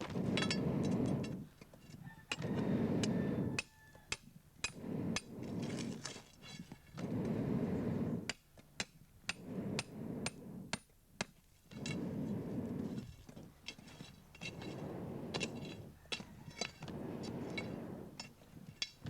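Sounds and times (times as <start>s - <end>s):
rough low scraping: 0.0s - 3.7s, 4.6s - 8.4s, 9.2s - 10.8s, 11.7s - 19.0s.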